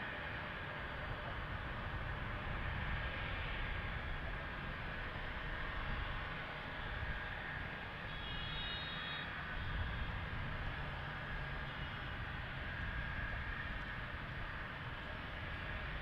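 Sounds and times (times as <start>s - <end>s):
distant jet aircraft: 0.0s - 16.0s.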